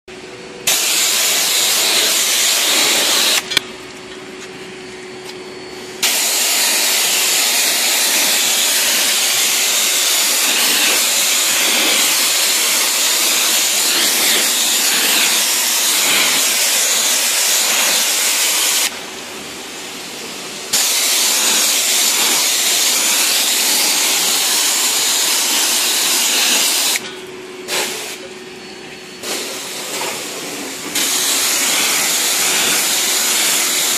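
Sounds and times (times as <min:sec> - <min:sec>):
pressure washer spray hissing: 0:00.6 - 0:03.6, 0:05.9 - 0:19.0, 0:19.7 - 0:27.0, 0:27.7 - 0:28.3, 0:29.2 - 0:33.9.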